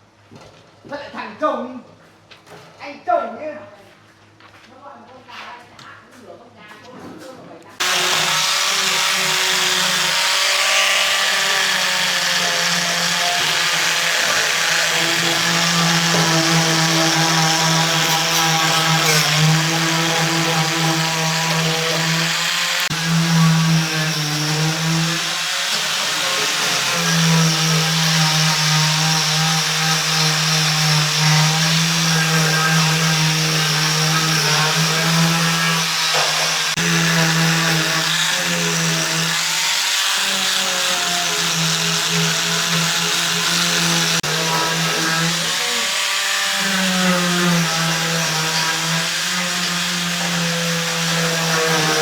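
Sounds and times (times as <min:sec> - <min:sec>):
power tool motor running: 0:07.8 - 0:52.0.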